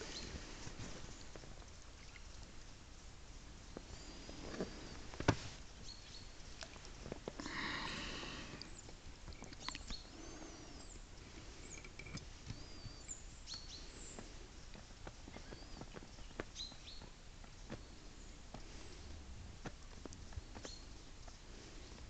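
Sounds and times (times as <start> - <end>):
small birds chirping: 0.0 - 2.8, 3.6 - 19.1, 19.9 - 22.0.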